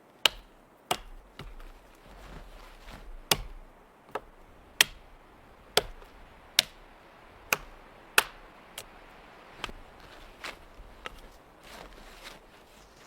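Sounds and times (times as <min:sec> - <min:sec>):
chopping strikes on wood: 0:00.2 - 0:09.0, 0:09.6 - 0:12.4.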